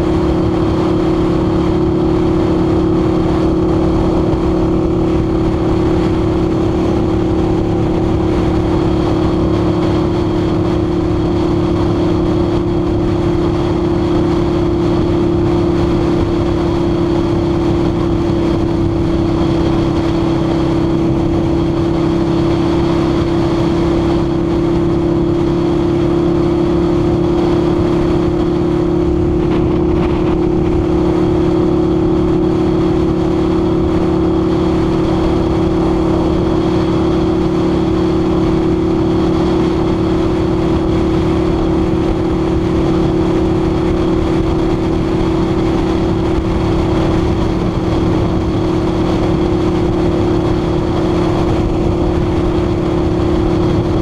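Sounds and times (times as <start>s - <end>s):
motorcycle engine cruising: 0.0s - 54.0s
wind rushing past microphone: 0.0s - 54.0s.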